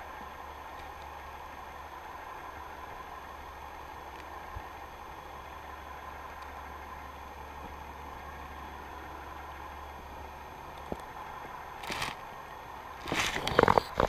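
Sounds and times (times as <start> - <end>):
underwater boat engine hum: 0.0 - 14.0.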